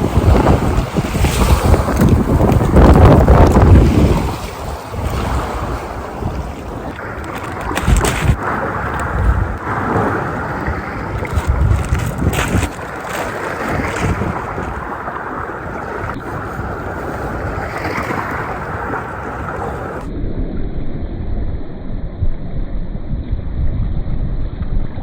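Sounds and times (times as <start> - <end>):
wind buffeting microphone: 0.0 - 20.1.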